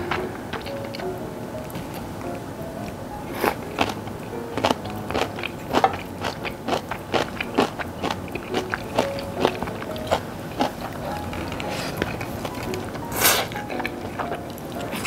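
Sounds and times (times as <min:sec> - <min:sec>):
soft background music: 0:00.0 - 0:15.0
wet chewing clicks: 0:02.8 - 0:15.0.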